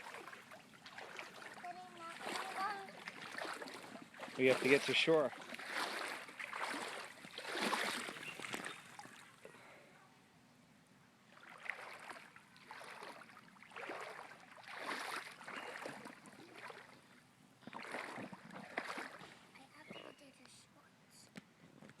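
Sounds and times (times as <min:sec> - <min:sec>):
floodwater swishing and splashing: 0:00.0 - 0:09.5, 0:11.3 - 0:19.9.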